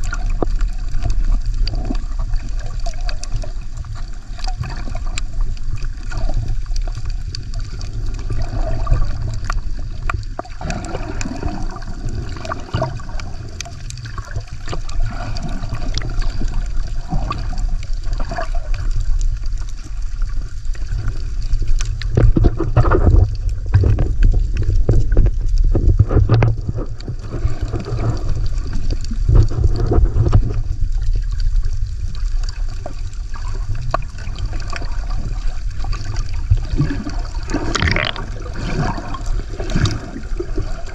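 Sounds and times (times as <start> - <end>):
underwater sloshing and gurgling: 0.0 - 40.9.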